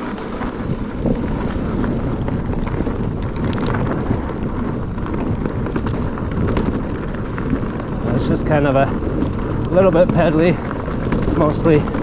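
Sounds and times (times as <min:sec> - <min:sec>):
bike tyres rumbling on dirt: 0:00.0 - 0:12.0
wind on microphone: 0:00.0 - 0:12.0.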